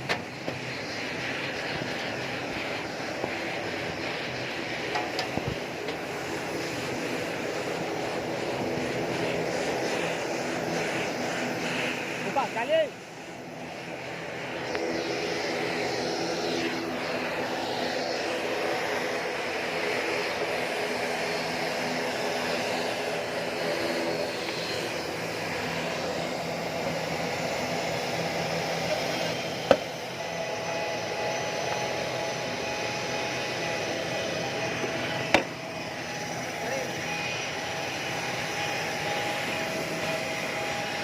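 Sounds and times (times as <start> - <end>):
jet turbine hum: 0.0 - 41.0.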